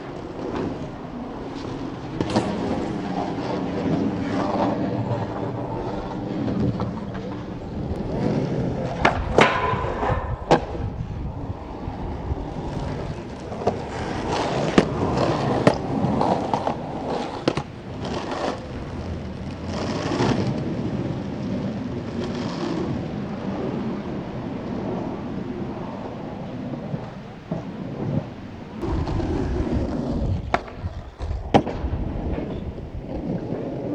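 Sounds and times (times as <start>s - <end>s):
skateboard clacking on ground: 0.0s - 20.9s, 27.0s - 33.9s
skateboard wheels rolling on concrete: 0.0s - 33.9s.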